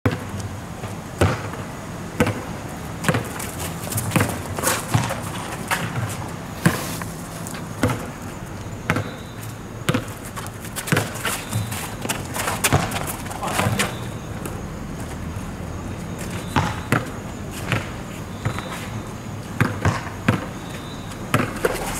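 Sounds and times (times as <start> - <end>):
basketball bouncing on asphalt: 0.1 - 21.9.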